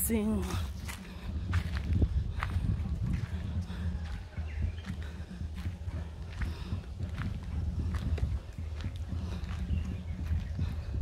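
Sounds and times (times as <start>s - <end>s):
footsteps on a path: 0.0s - 11.0s
low microphone rumble: 0.0s - 11.0s.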